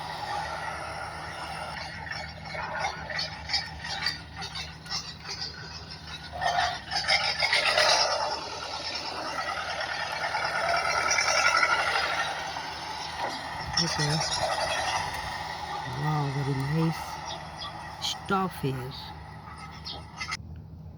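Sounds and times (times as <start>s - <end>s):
warbling whir: 0.0s - 20.4s
plastic toy rattling and scraping: 1.4s - 18.3s.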